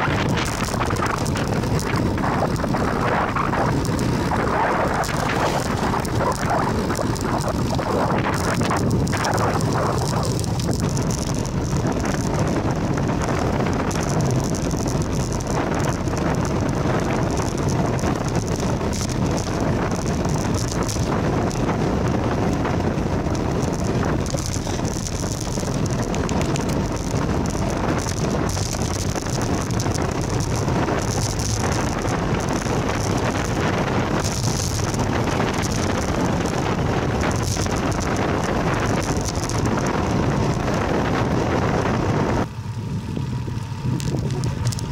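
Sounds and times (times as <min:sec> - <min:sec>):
tyres rolling on asphalt: 0:00.0 - 0:44.9
wind rush on microphone: 0:00.0 - 0:44.9.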